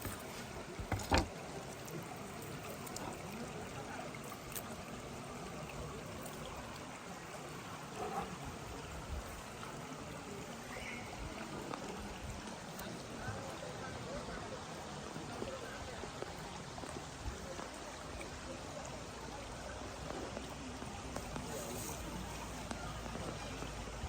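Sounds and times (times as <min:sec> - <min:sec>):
flowing stream water: 0:00.0 - 0:24.0.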